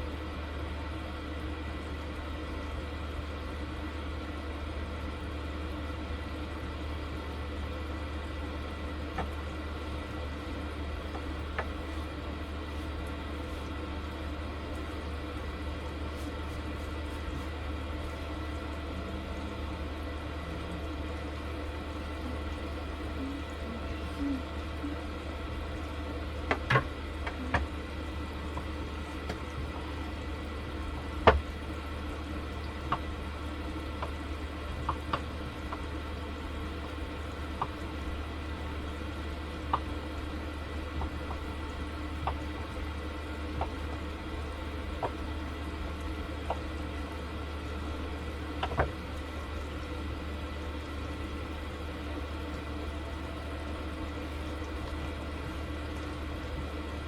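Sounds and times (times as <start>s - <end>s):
steady low hum: 0.0s - 57.0s
liquid bubbling: 1.3s - 57.0s.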